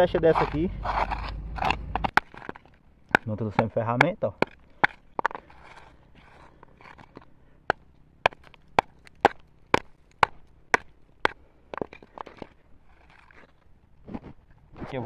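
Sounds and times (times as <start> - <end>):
stone striking stone: 0.1 - 13.6.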